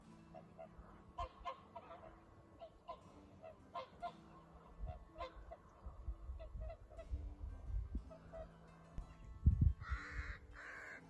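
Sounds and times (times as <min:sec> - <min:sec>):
swans honking: 0:00.0 - 0:07.1, 0:08.1 - 0:08.8, 0:09.9 - 0:11.0.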